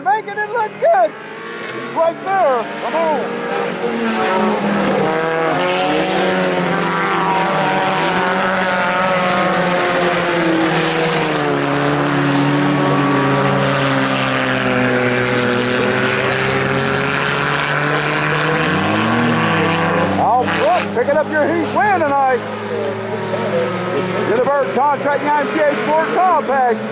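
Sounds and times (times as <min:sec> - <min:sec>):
race car engines racing: 0:00.0 - 0:26.9.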